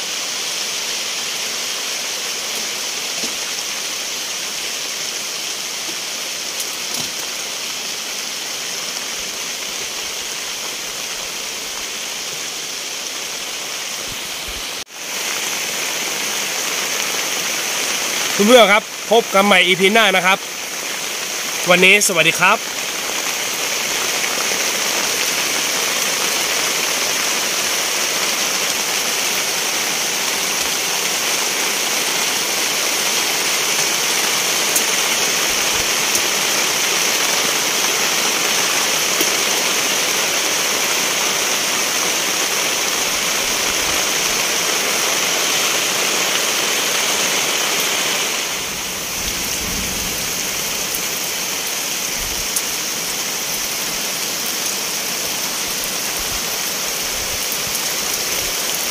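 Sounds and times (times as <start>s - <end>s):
steady rain hiss: 0.0s - 58.9s.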